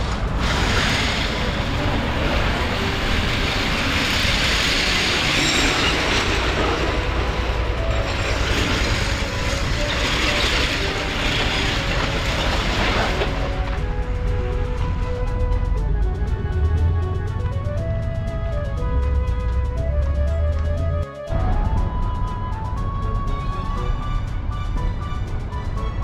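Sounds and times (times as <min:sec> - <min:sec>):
background music with steady bass: 0:00.0 - 0:26.0.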